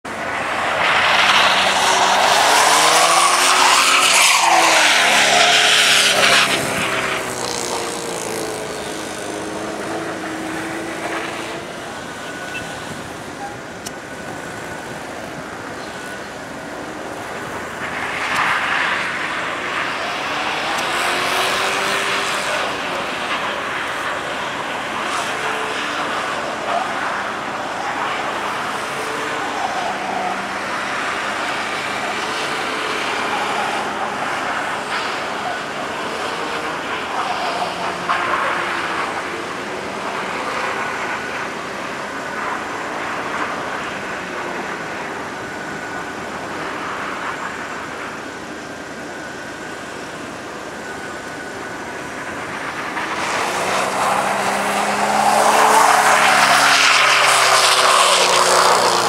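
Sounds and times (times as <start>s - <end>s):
car engine revving: 0.0s - 43.6s, 51.2s - 59.0s
tyres spinning on snow: 0.1s - 59.0s.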